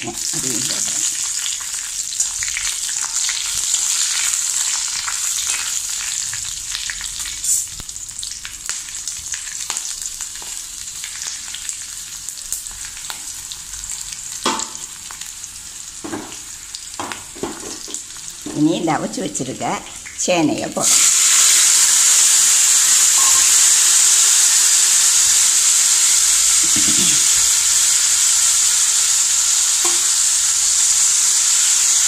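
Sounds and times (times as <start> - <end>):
chillies sizzling in hot oil: 0.0 - 32.0.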